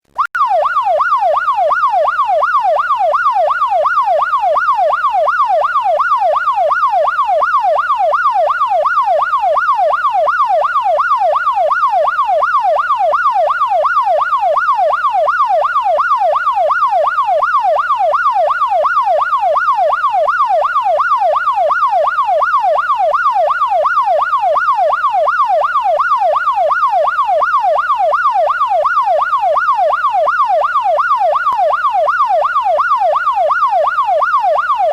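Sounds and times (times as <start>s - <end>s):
police siren yelp: 0.2s - 34.9s.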